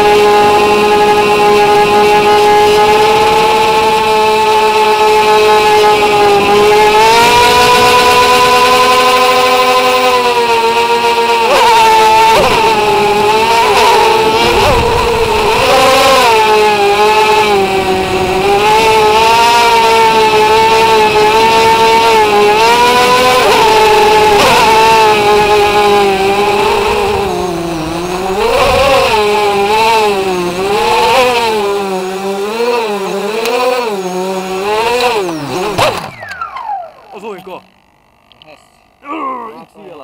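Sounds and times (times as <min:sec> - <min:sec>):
electric motors and propellers whining: 0:00.0 - 0:40.0.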